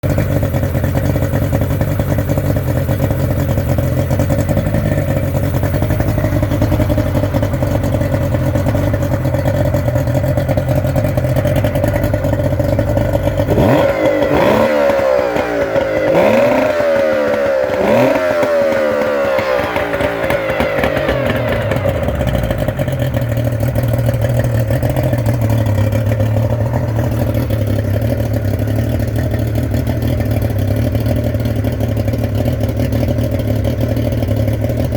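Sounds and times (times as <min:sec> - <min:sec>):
outboard motor idling and revving: 0:00.0 - 0:34.9.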